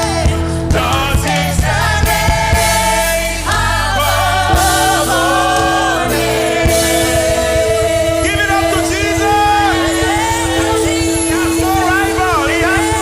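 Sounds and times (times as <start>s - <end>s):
gospel worship song: 0.0s - 13.0s.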